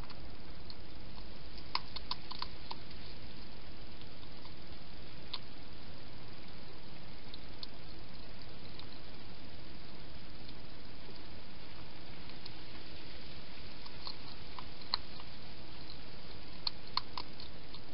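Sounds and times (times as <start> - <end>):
hedgehog eating wet clicks: 0.0 - 5.6, 7.2 - 9.3, 9.9 - 13.0, 13.6 - 17.9
steady hiss: 0.0 - 17.9.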